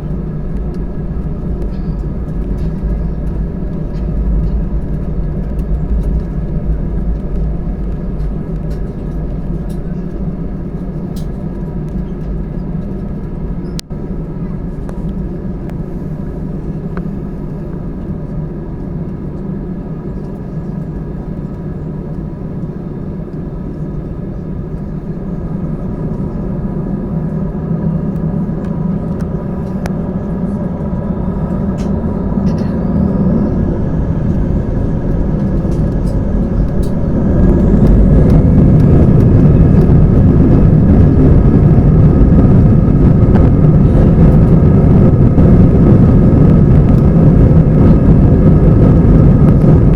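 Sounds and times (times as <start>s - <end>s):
engine whine climbing in pitch: 0.0s - 49.9s
jet engines humming: 0.0s - 49.9s.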